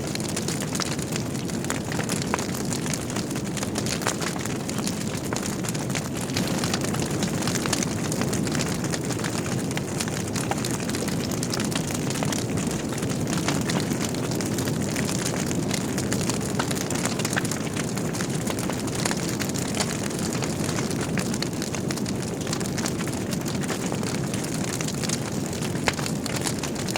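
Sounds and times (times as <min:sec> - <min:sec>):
fire crackles and pops: 0:00.0 - 0:26.9
logs burning in fireplace: 0:00.0 - 0:26.9.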